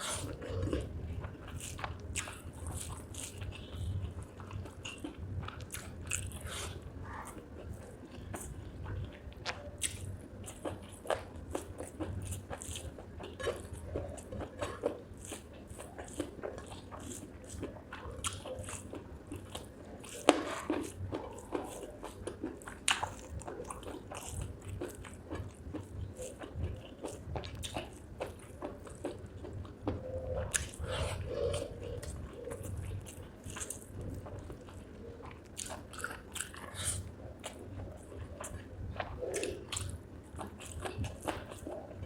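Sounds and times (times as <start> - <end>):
mouth chewing food: 0.0 - 42.0.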